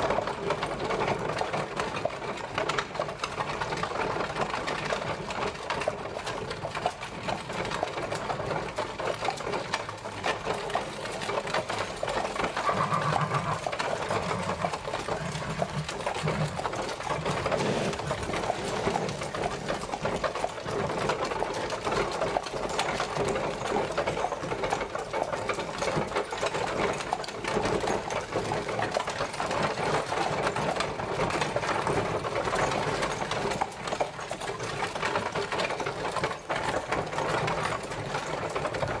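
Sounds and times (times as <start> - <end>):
carriage wheels rattling: 0.0 - 39.0.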